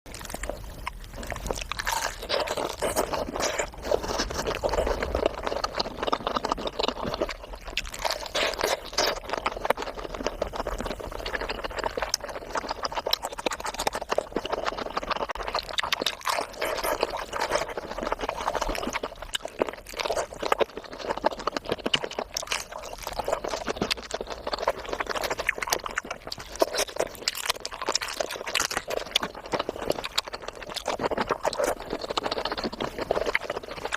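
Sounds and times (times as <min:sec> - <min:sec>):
wet chewing: 0:00.1 - 0:33.9
lip smacks and slurps: 0:00.2 - 0:33.9.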